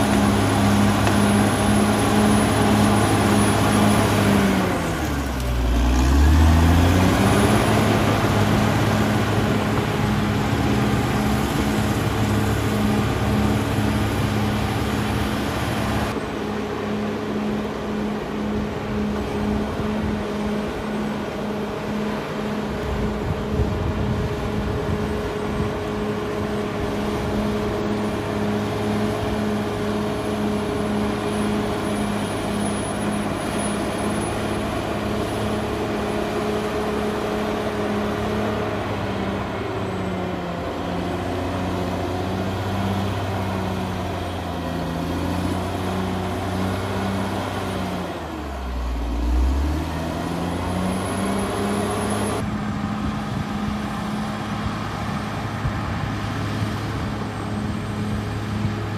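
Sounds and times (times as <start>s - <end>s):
bulldozer diesel engine working: 0.0s - 58.9s.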